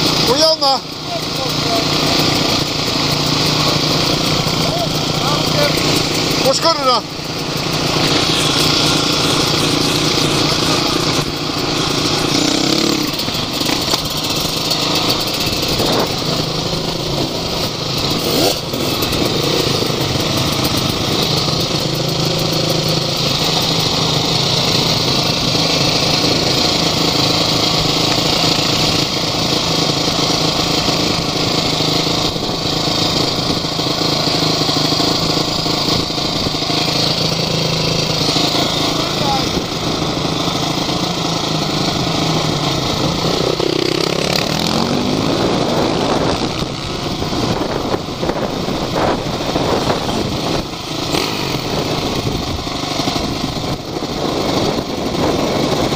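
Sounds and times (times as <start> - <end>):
off-road vehicle engine running: 0.0 - 55.9.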